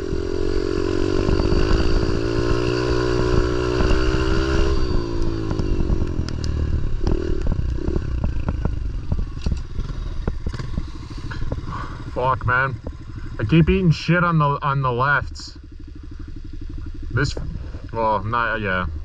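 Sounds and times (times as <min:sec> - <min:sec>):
pit bike engine running: 0:00.0 - 0:19.0.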